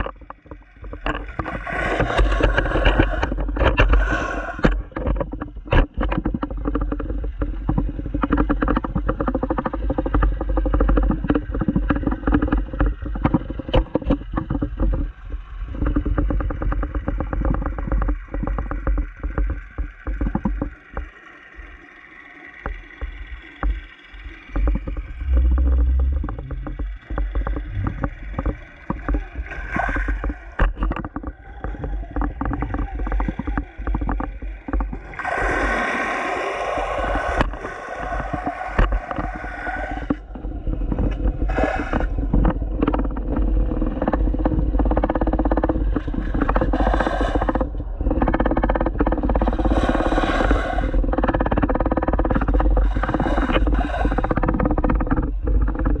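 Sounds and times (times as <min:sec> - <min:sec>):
muffled underwater rumble: 0:00.0 - 0:56.0
small underwater clicks and knocks: 0:00.0 - 0:56.0.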